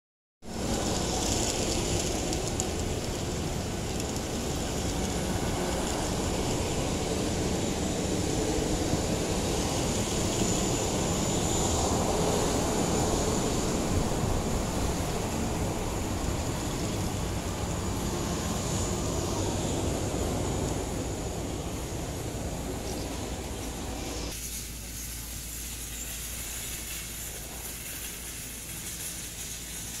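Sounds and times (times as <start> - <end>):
high jet whine: 0.4 - 30.0
jet aircraft rumble: 0.4 - 30.0
steady hiss: 0.5 - 30.0.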